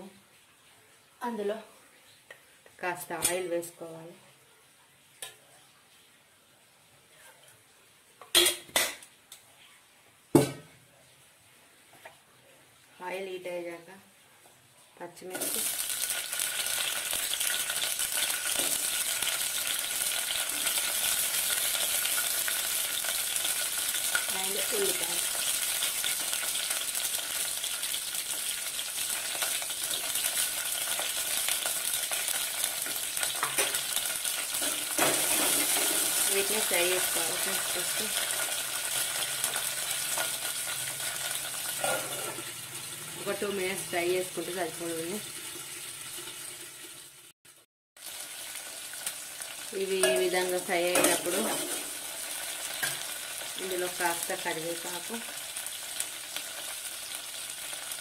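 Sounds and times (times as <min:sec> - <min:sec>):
vegetables sizzling in hot oil: 0:01.1 - 0:04.1, 0:13.0 - 0:58.0.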